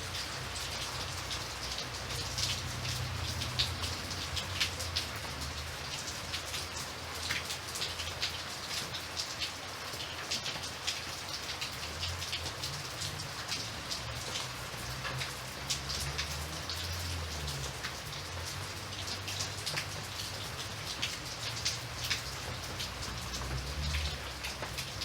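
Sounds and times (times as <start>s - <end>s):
rain drops striking a surface: 0.0s - 25.0s.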